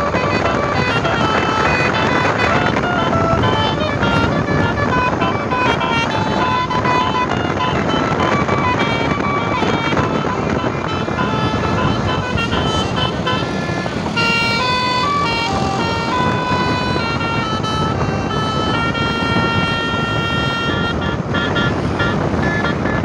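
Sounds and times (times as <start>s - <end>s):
bus musical horn playing tune: 0.0s - 23.0s
steady background rush: 0.0s - 23.0s.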